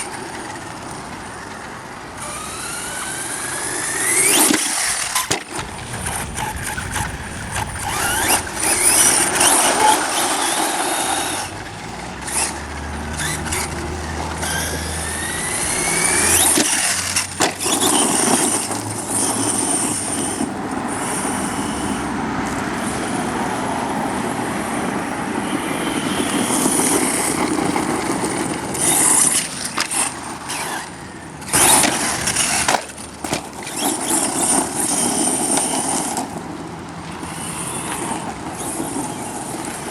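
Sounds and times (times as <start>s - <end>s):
electric motor and gears whining: 0.0s - 39.9s
tyres churning dirt: 0.0s - 39.9s.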